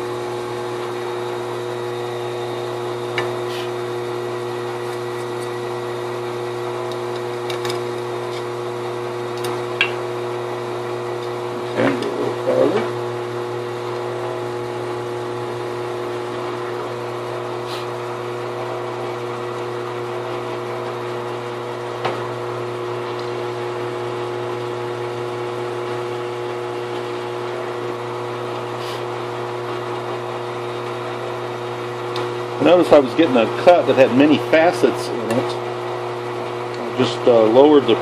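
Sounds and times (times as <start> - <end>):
drill press motor humming: 0.0 - 38.0.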